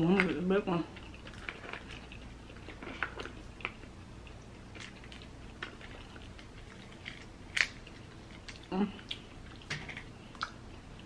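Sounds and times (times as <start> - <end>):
chewing with wet smacks: 0.0 - 11.0.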